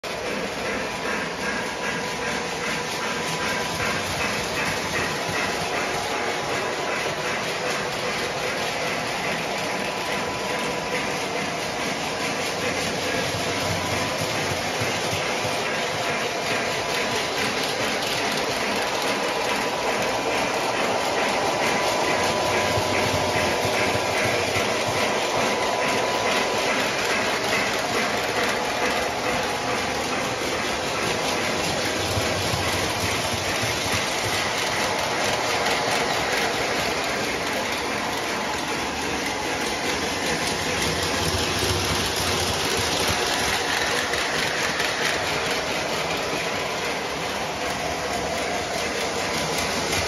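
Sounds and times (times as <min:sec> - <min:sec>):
model train wheels rumbling: 0:00.0 - 0:50.0.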